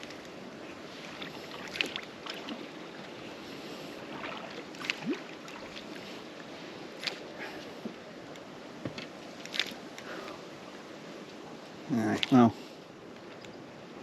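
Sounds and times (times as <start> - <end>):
wind and water washing: 0.0 - 14.0.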